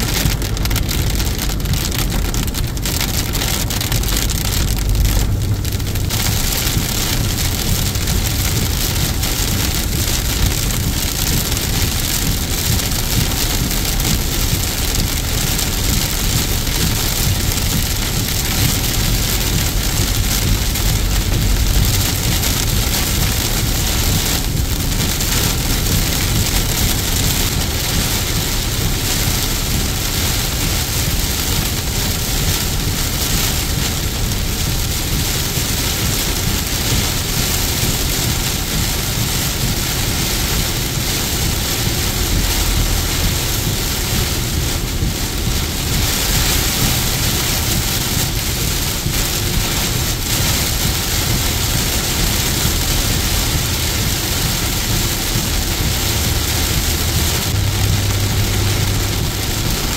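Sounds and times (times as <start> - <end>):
heavy rain on car roof: 0.0 - 59.9
road and tyre noise: 0.0 - 59.9.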